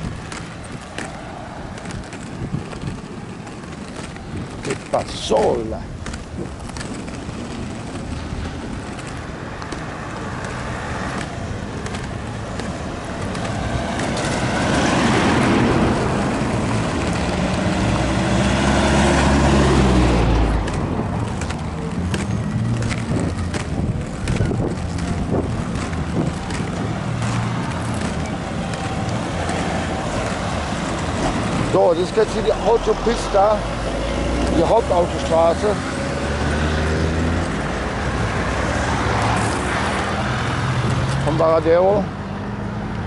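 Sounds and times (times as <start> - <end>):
motor vehicle passing: 0.0 - 43.0
skate wheels rolling on asphalt: 0.0 - 43.0
traffic: 0.0 - 43.0.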